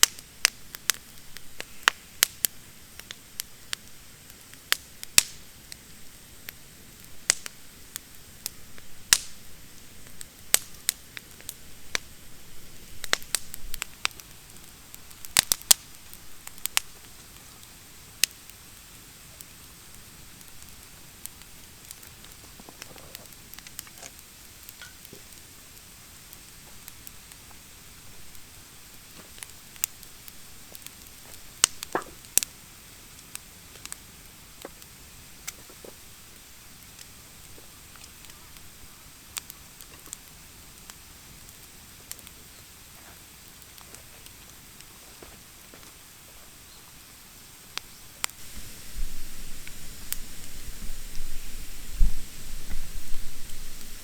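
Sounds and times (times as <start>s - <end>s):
sharp pops from fire: 0.0s - 12.1s, 12.7s - 46.0s, 47.7s - 54.0s
wood fire crackling: 0.0s - 54.0s.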